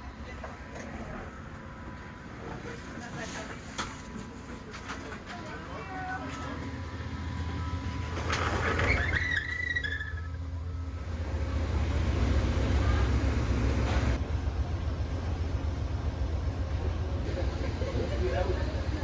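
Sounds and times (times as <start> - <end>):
moving vehicle rumble: 0.0 - 19.0.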